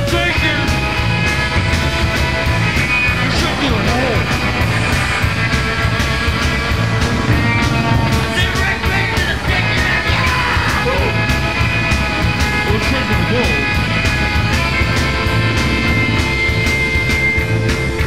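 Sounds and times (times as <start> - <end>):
background music with steady beat: 0.0 - 18.0.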